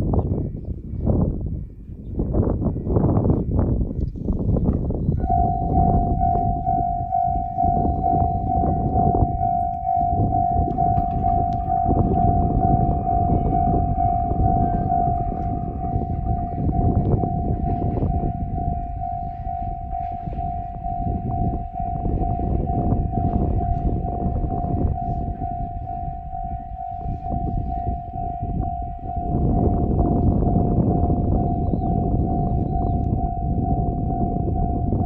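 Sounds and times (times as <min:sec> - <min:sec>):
loud low rumble: 0:05.1 - 0:35.0
level-crossing bell ringing: 0:05.2 - 0:35.0.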